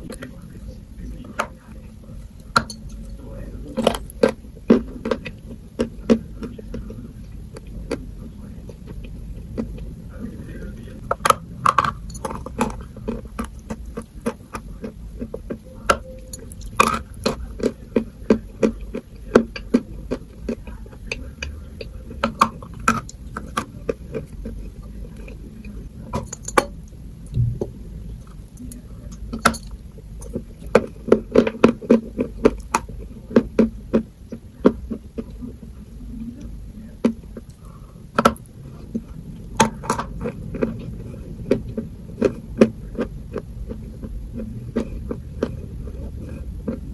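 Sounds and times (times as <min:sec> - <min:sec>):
crunching and chewing chalk: 0:00.0 - 0:46.9.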